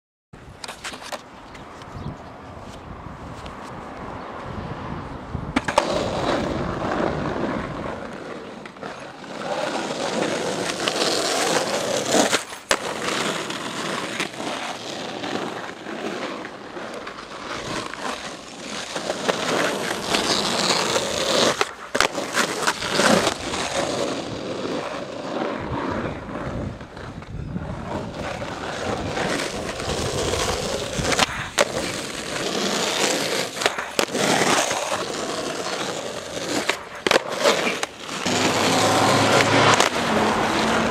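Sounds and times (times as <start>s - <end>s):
skateboard wheels on asphalt: 0.4s - 40.9s
skateboard clacks on pavement: 0.6s - 2.0s, 5.5s - 40.9s.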